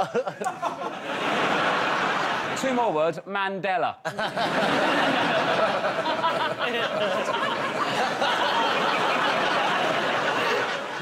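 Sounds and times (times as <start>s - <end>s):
audience laughing: 0.0s - 2.6s, 4.1s - 11.0s.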